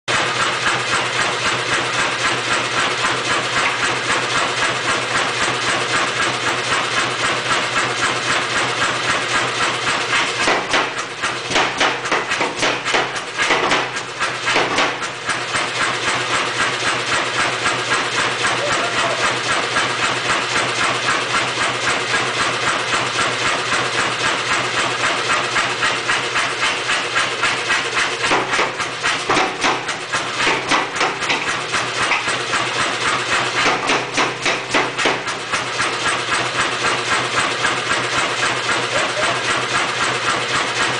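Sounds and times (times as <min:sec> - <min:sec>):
power hammer chugging: 0:00.1 - 0:40.9.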